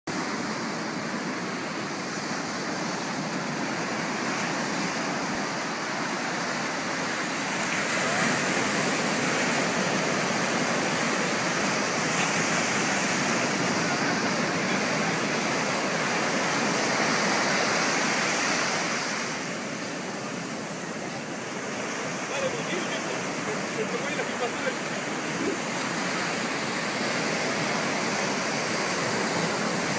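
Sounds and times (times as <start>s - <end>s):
ocean waves breaking on beach: 0.1s - 29.9s.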